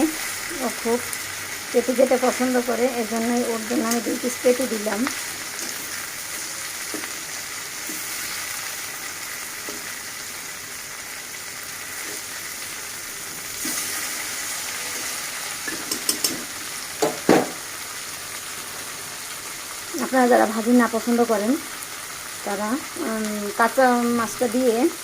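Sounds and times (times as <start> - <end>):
fish sizzling in oil: 0.0 - 25.0.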